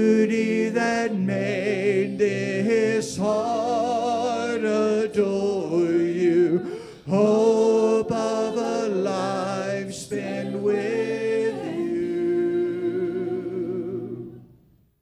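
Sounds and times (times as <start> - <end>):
congregation singing a cappella: 0.0 - 14.6.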